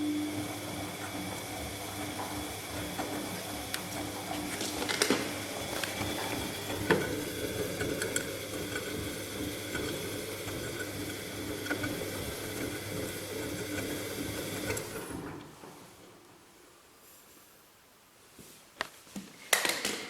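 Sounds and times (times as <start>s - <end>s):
washing machine motor hum: 0.0s - 16.5s.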